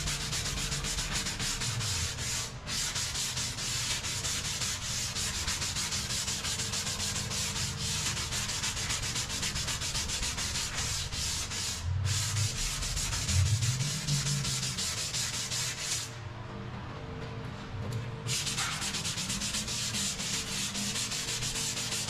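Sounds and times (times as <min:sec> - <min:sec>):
sanding car body filler: 0:00.0 - 0:16.2, 0:18.3 - 0:22.0.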